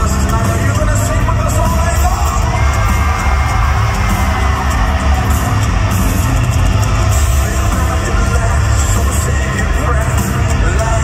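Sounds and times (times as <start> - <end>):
bass guitar: 0.0 - 11.0
distorted electric guitars: 0.0 - 11.0
pounding drums: 0.0 - 11.0.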